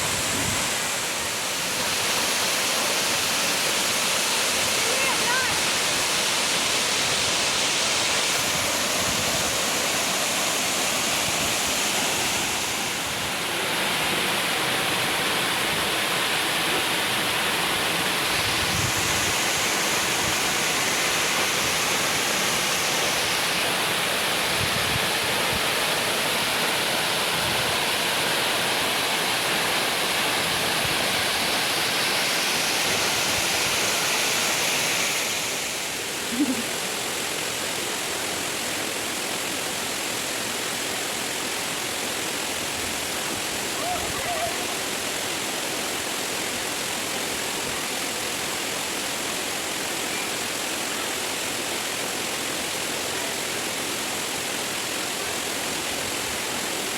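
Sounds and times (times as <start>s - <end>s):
waterfall pouring into pool: 0.0s - 56.9s.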